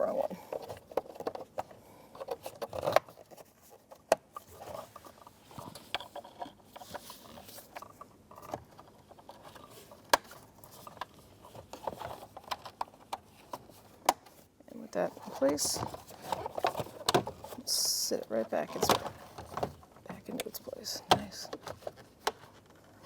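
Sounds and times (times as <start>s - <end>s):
plastic parts rustling: 0.0s - 23.0s.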